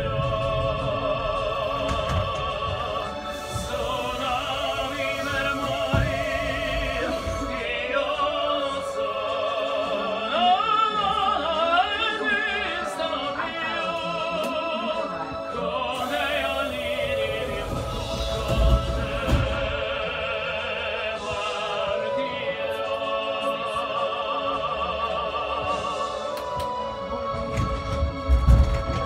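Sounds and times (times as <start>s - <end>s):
opera singing with vibrato: 0.0s - 29.0s
train carriage rumble: 0.0s - 29.0s.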